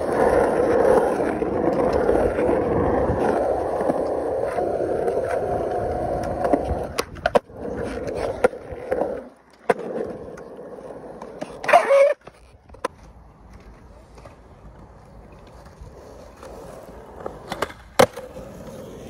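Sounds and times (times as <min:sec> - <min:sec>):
skateboard clacks: 0:00.0 - 0:19.0
skateboard rolling on concrete: 0:00.0 - 0:19.0.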